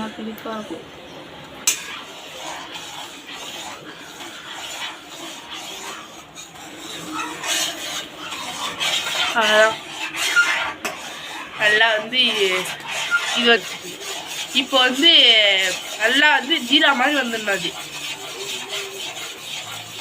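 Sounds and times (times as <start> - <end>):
spoon scraping and clinking pan: 1.6 - 20.0.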